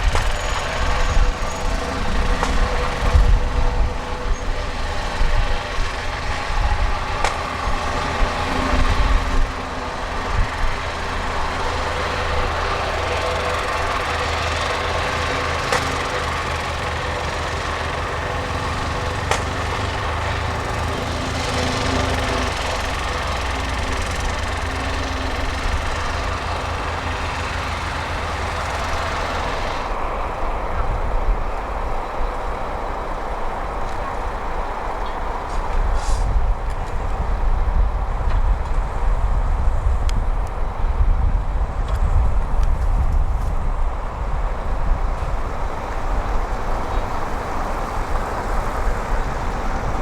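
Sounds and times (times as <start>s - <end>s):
diesel construction machinery running: 0.0s - 50.0s
wind buffeting microphone: 0.0s - 50.0s.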